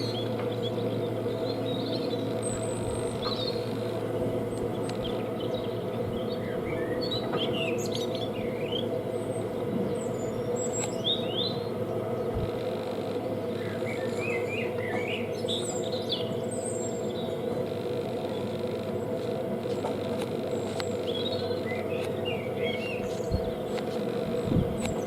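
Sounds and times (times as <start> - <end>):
small birds chirping: 0.0 - 25.0
steady low hum: 0.0 - 25.0.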